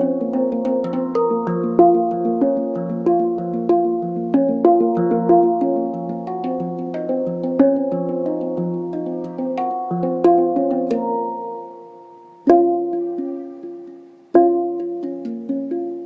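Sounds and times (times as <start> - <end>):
handpan notes ringing: 0.0 - 16.0.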